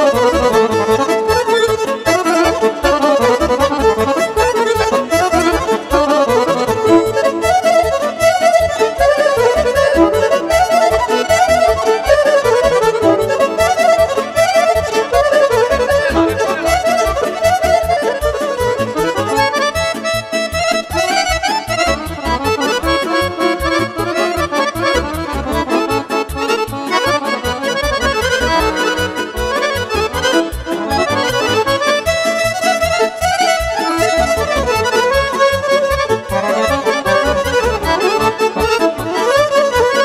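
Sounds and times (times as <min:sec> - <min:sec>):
accordion lead melody: 0:00.0 - 0:40.0
keyboard backing with beat: 0:00.0 - 0:40.0.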